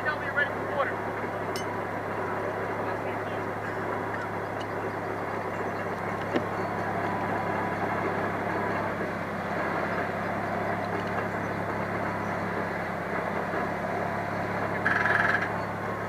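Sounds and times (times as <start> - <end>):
fire engine running: 0.0 - 16.0.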